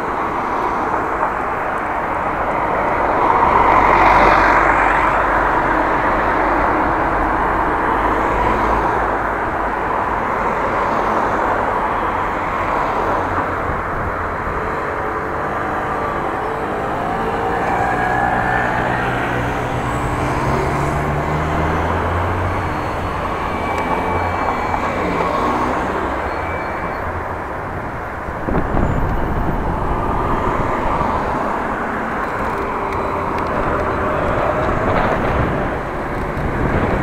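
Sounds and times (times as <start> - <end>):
vehicles driving past: 0.0 - 37.0.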